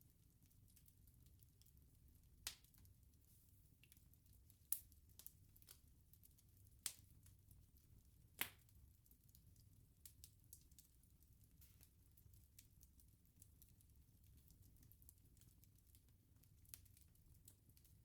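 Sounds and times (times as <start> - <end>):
bonfire crackling and popping: 0.2 - 18.0.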